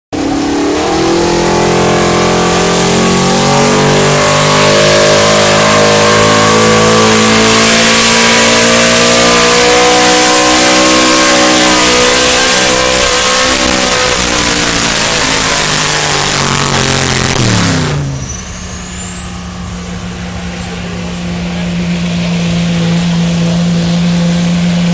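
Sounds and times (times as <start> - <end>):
truck engine running at high revs: 0.1 - 24.9.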